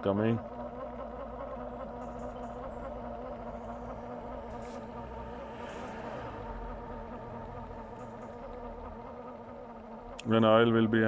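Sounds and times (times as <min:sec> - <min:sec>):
oil extractor pump humming: 0:00.0 - 0:11.0.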